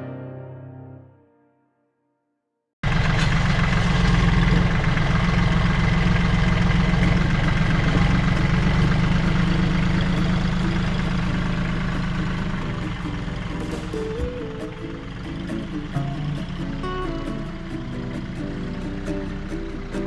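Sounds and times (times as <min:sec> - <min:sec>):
engine idling: 0:02.8 - 0:20.0.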